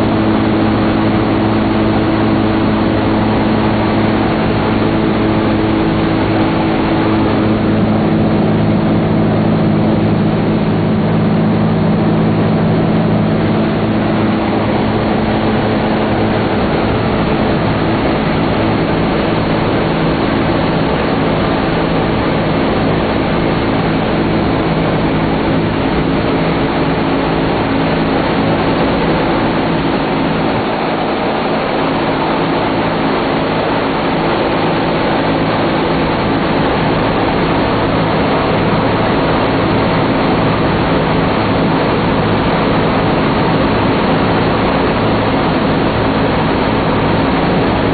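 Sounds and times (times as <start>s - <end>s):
propeller plane engines droning: 0.0s - 47.9s
rushing air noise: 0.0s - 47.9s.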